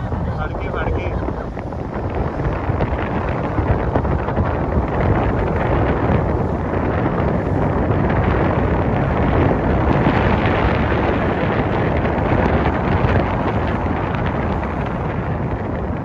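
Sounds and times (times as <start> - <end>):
boat motor: 0.0 - 16.0
water against hull: 0.0 - 16.0
wind buffeting microphone: 0.0 - 16.0.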